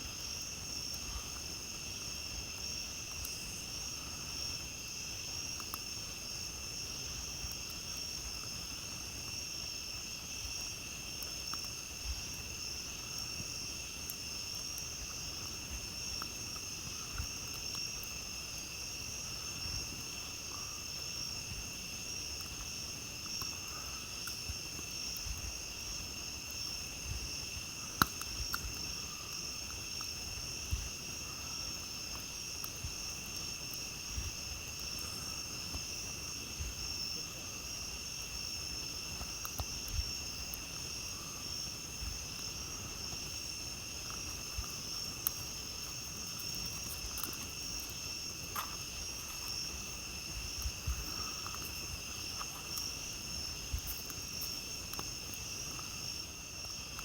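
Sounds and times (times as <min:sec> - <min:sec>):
night insects trilling: 0:00.0 - 0:57.0
campfire crackling and popping: 0:00.1 - 0:57.0.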